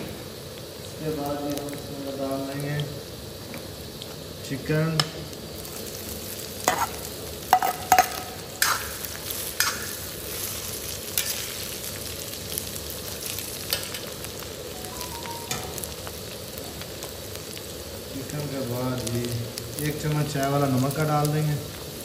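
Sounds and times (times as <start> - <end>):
oil sizzling in pan: 0.0 - 22.0.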